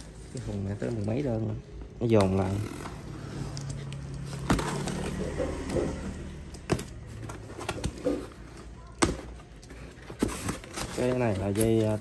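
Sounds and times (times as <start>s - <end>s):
cardboard scraping and rustling: 2.4s - 12.0s.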